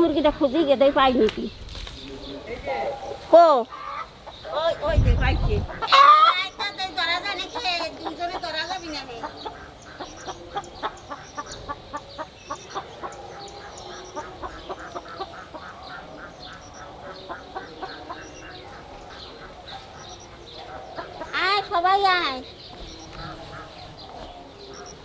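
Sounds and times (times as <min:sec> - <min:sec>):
poultry calling: 0:00.0 - 0:25.0.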